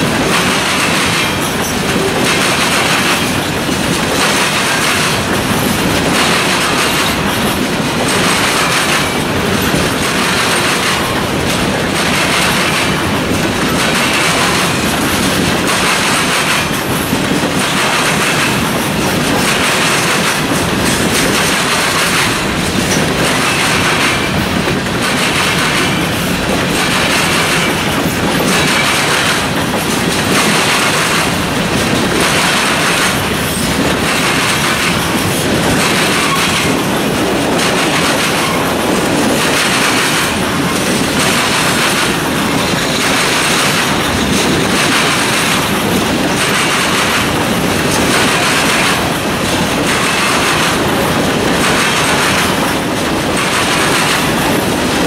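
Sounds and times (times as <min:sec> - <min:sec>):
rumble and rattle of freight cars: 0:00.0 - 0:55.0
train wheels clattering over rail joints: 0:00.0 - 0:55.0.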